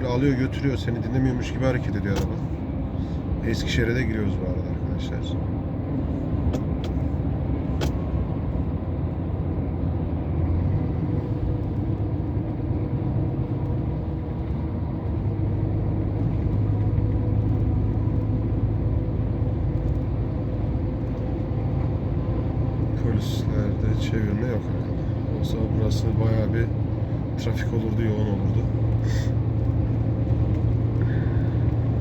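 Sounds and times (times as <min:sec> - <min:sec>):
truck engine drone: 0:00.0 - 0:32.0
tyre and road noise: 0:00.0 - 0:32.0.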